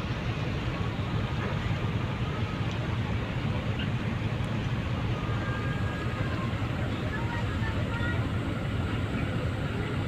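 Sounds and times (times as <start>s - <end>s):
ship engines low rumble: 0.0s - 10.0s.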